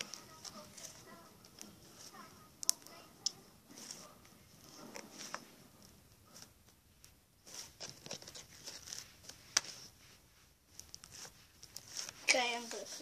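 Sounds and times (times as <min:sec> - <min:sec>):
slime squishing with sticky crackles: 0:00.0 - 0:13.0.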